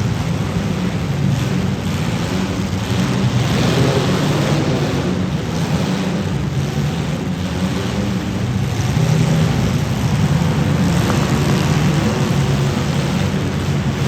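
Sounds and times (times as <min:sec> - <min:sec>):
car engines running loud: 0:00.0 - 0:14.0.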